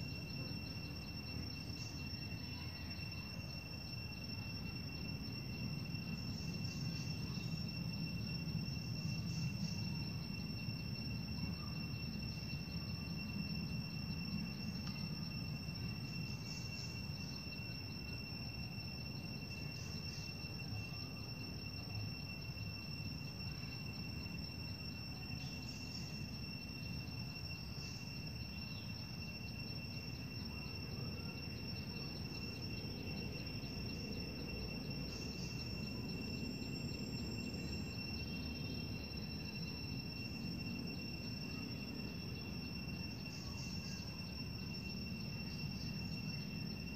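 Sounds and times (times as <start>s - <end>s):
high insect chirps: 0.0s - 46.9s
insects trilling: 0.0s - 46.9s.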